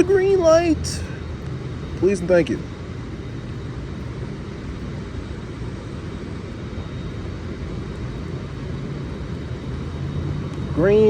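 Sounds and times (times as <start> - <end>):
city traffic rumble: 0.0 - 11.0
steady hiss: 0.0 - 11.0.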